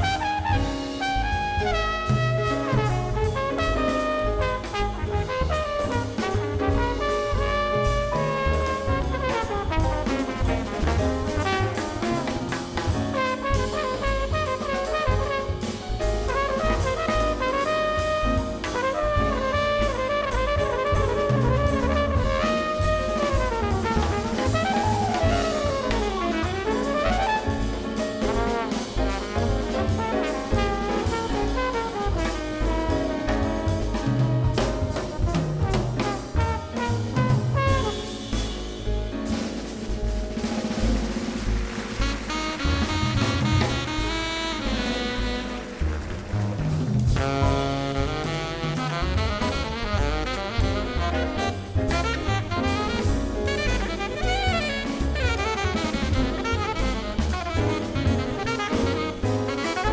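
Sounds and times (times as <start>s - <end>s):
brass horn solo: 0.0s - 59.9s
busy drum kit: 0.0s - 59.9s.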